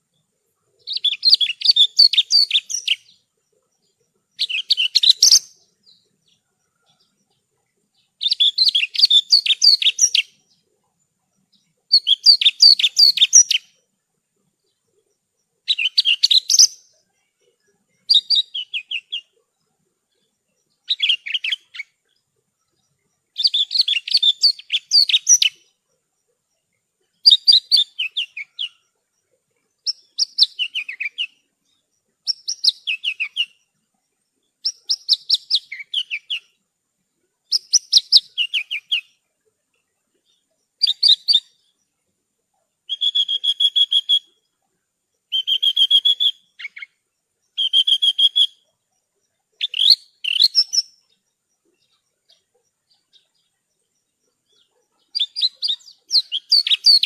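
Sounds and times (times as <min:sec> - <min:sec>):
bush lark singing: 0:00.0 - 0:10.7, 0:11.3 - 0:36.6, 0:37.4 - 0:39.3, 0:40.1 - 0:42.0, 0:42.8 - 0:57.0.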